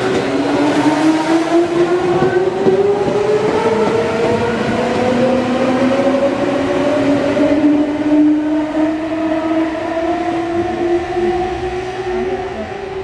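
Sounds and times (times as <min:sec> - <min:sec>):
wheels rumbling on track: 0:00.0 - 0:13.0.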